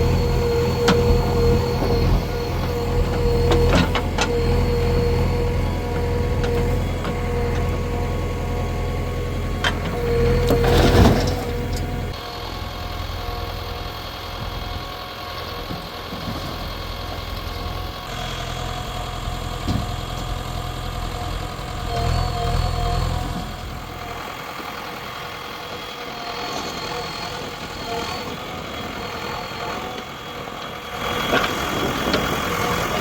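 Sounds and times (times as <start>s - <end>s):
diesel machinery engine running: 0.0s - 33.0s.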